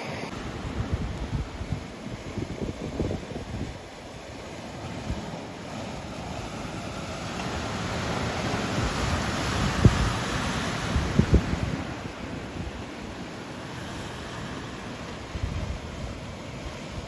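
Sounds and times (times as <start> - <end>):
wind buffeting microphone: 0.0 - 13.2, 15.1 - 17.0
sea waves washing onto shore: 0.0 - 17.0.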